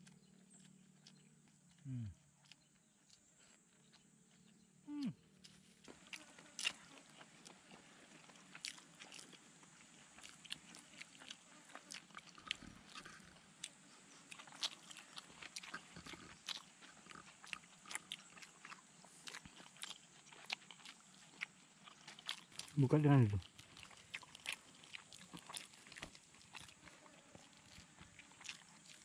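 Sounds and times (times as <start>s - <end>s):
person chewing: 0.0s - 29.0s.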